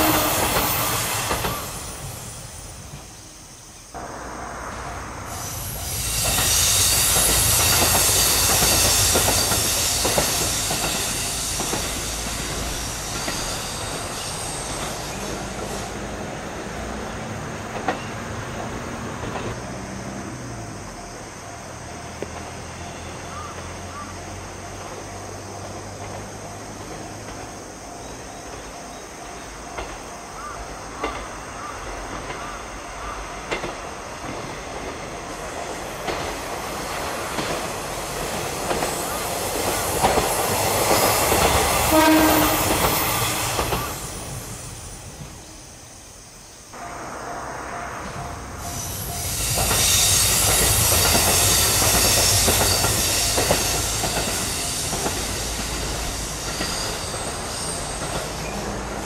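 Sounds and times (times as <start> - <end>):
diesel railcar engine drone: 0.0 - 59.0
train track noise: 0.0 - 59.0.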